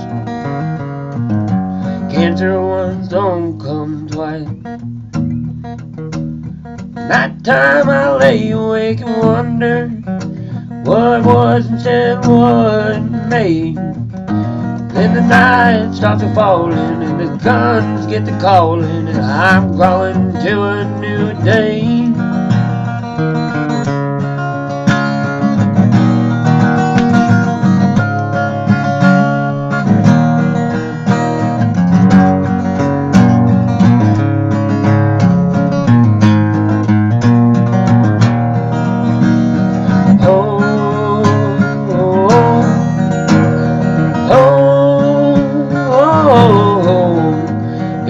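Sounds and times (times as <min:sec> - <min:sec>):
acoustic guitar strumming: 0:00.0 - 0:48.0.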